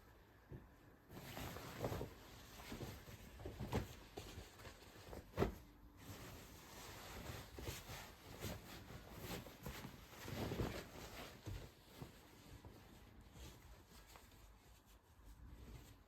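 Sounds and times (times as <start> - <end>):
soft rustling: 0.0 - 16.0.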